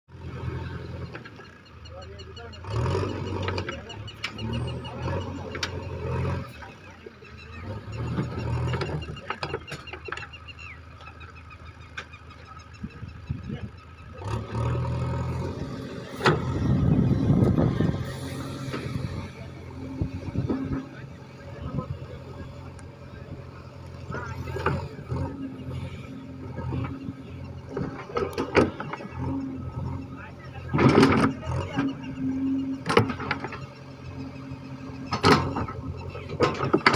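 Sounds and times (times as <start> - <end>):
diesel engine running: 0.1 - 36.9
chickens clucking: 0.2 - 36.9.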